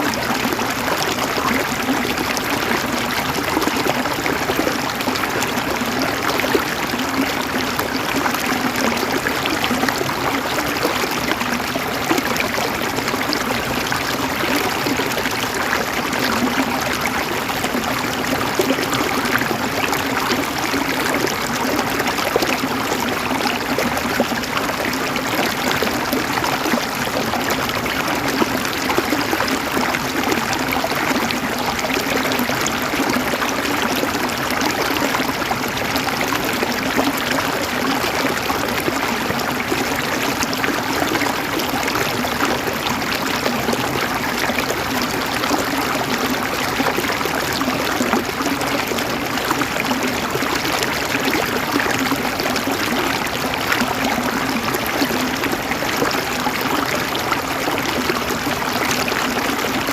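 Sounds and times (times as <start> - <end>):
river water flowing over rocks: 0.0 - 59.9.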